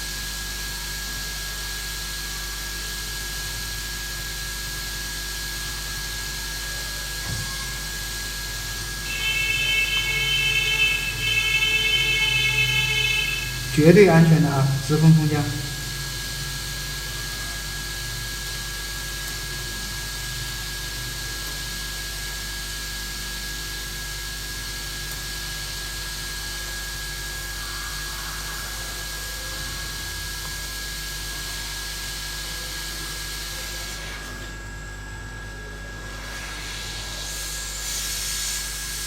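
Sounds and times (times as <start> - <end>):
hot-air station blowing with high whine: 0.0 - 39.0.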